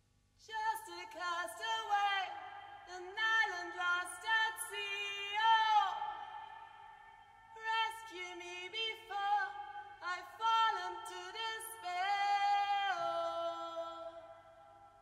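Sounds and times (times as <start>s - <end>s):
woman singing: 0.4s - 14.9s.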